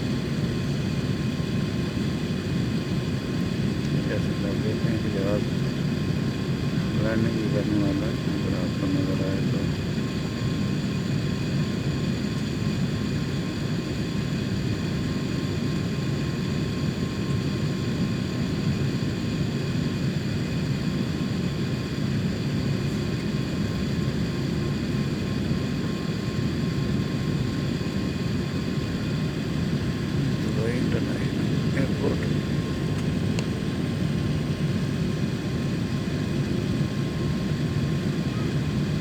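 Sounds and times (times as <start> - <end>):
jet engines droning: 0.0 - 39.0.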